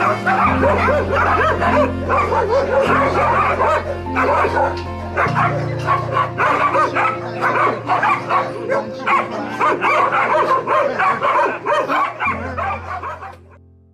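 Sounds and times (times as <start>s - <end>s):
dogs yipping and whining: 0.0s - 13.5s
low held music notes: 0.0s - 13.9s.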